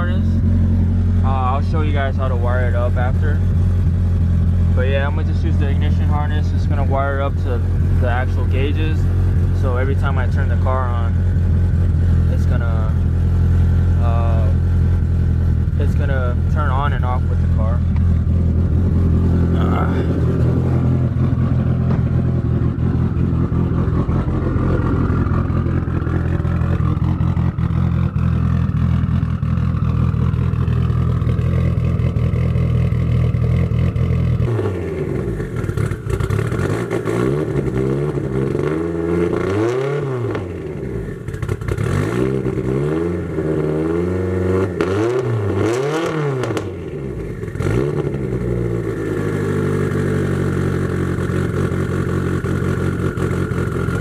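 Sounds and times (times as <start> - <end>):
car engine idling: 0.0 - 54.0
engine throttle blips: 0.0 - 54.0.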